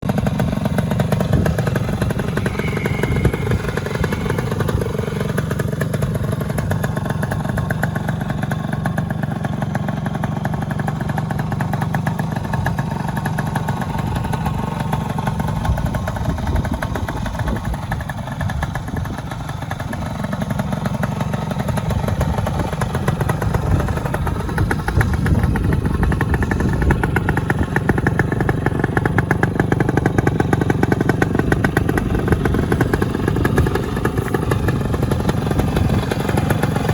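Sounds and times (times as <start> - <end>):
two-stroke motorcycle engine running: 0.0 - 36.9.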